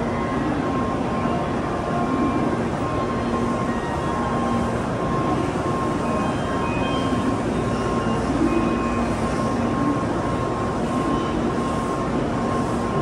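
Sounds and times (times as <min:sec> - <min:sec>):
faint high whine: 0:00.0 - 0:13.0
train equipment drone: 0:00.0 - 0:13.0.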